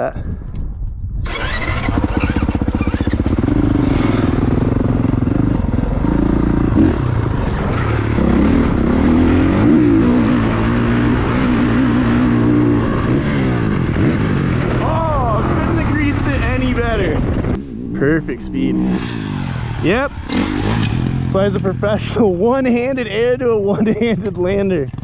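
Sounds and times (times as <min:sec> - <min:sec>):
dirt bike engine revving: 0:01.2 - 0:25.0.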